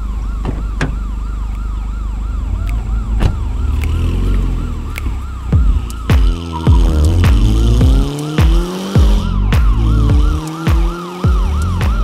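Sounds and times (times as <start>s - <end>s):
car engine rumble: 0.0s - 12.0s
siren yelping: 0.0s - 12.0s.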